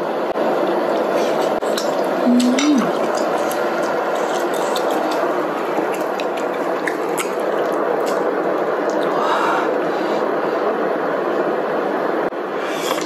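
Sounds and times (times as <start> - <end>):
broth boiling and bubbling: 0.0 - 11.5.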